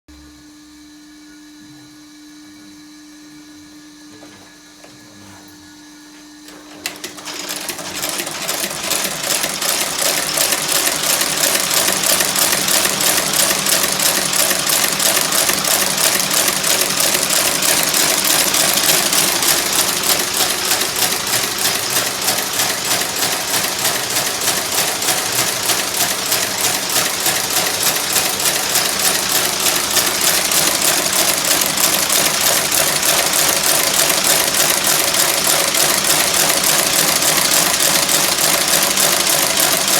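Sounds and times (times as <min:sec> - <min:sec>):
stitching machine sewing: 0:06.5 - 0:39.9.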